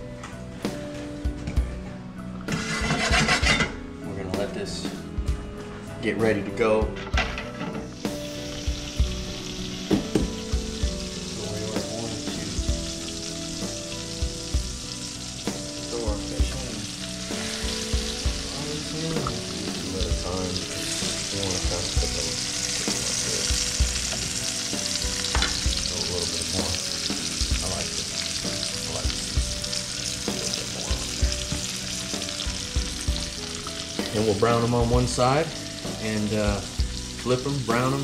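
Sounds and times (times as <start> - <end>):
fish sizzling in a pan: 7.5 - 38.0.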